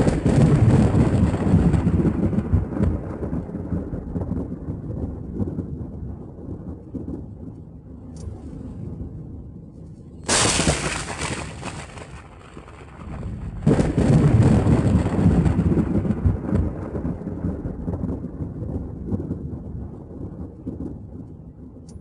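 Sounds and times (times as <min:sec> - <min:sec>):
steady rain: 0:00.0 - 0:22.0
thunder cracking and rumbling: 0:00.0 - 0:22.0.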